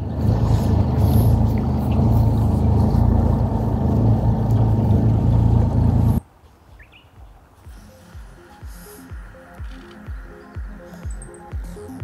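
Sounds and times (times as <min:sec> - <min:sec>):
outboard motor droning: 0:00.0 - 0:06.2, 0:07.7 - 0:12.0.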